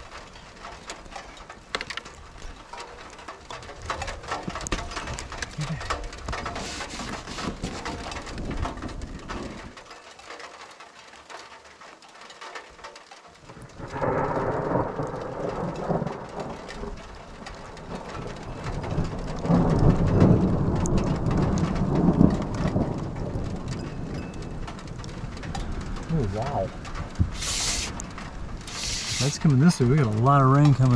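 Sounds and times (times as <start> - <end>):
thunder rumbling: 0.0 - 9.8, 13.4 - 30.9
rain pattering on a camper shell: 0.0 - 30.9.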